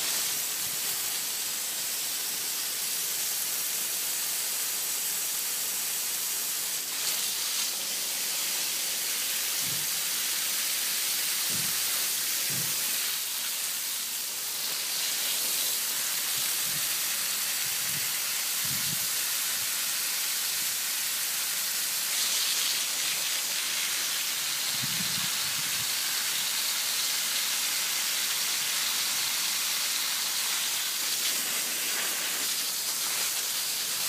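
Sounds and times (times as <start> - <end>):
water spraying from a garden hose: 0.0 - 34.0.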